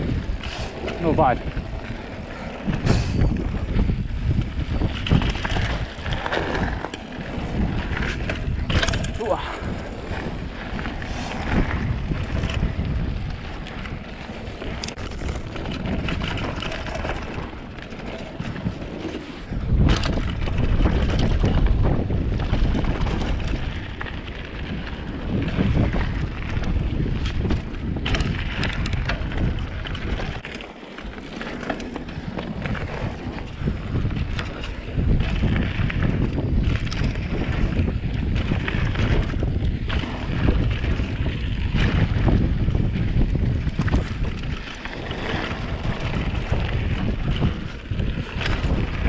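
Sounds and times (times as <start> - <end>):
bike knocks and rattles: 0.0 - 49.0
tyres rumbling on gravel: 0.0 - 49.0
wind buffeting microphone: 0.0 - 49.0.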